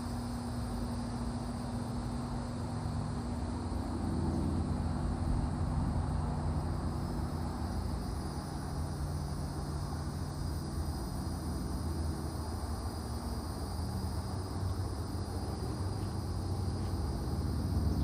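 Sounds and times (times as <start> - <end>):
cicadas buzzing: 0.0 - 18.0
steady low hum: 0.0 - 18.0.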